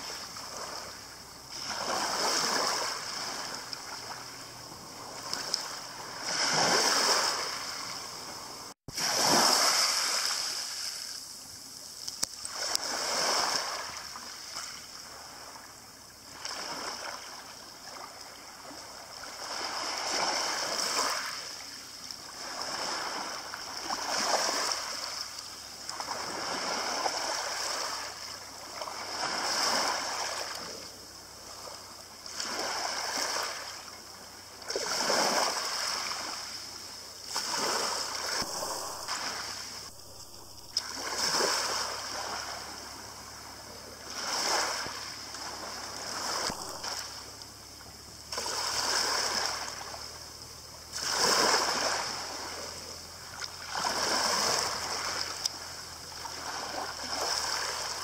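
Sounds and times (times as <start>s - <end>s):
waves washing over shingle beach: 0.0s - 58.0s.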